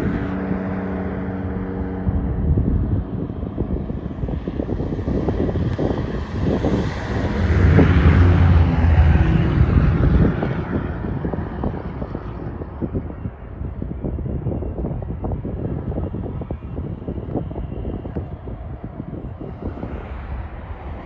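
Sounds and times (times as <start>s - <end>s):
low engine rumble: 0.0s - 21.0s
wind buffeting microphone: 0.0s - 21.0s.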